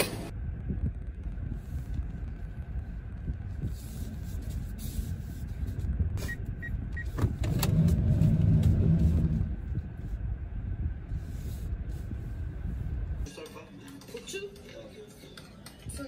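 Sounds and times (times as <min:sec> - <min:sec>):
car engine and road rumble: 0:00.0 - 0:13.3.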